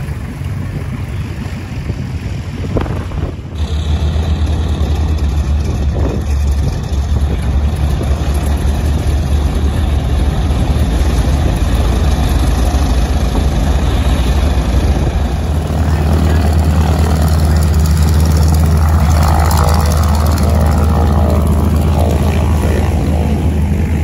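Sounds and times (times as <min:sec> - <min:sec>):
propeller plane engine idling: 0:00.0 - 0:24.0.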